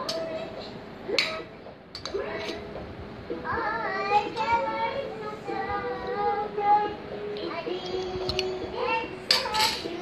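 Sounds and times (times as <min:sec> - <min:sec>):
young child singing: 0:00.0 - 0:02.7, 0:03.4 - 0:10.0.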